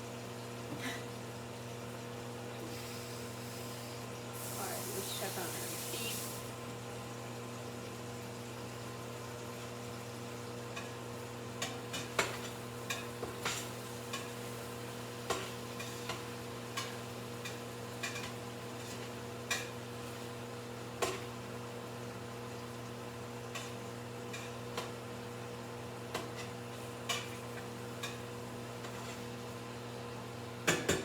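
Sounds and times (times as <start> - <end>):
steady electrical hum: 0.0 - 30.7
meat sizzling in a pot: 2.6 - 31.0.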